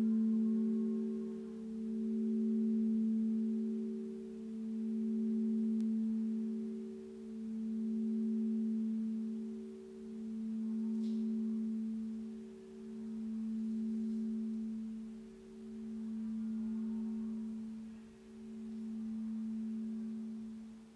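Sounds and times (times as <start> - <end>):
crystal singing bowls ringing: 0.0 - 20.9.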